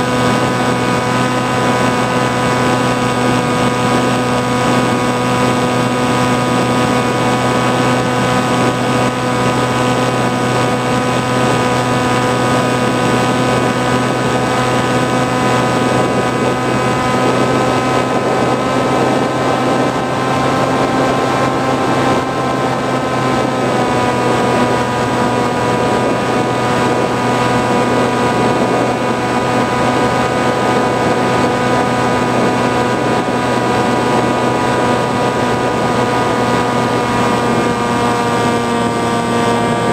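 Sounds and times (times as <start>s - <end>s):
propeller motor drone: 0.0s - 39.9s.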